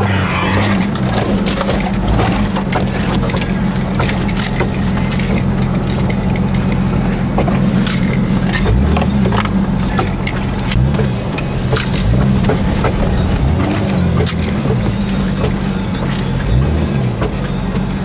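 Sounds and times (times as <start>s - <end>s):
cab rattling and clattering: 0.0s - 18.0s
engine running steadily: 0.0s - 18.0s.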